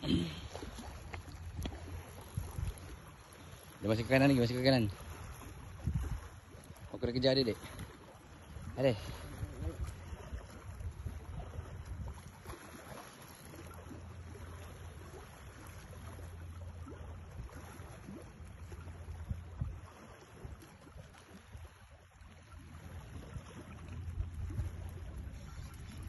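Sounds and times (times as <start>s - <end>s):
wind on microphone: 0.0s - 3.1s, 4.0s - 12.8s, 16.8s - 26.0s
faint water wash: 0.0s - 26.0s.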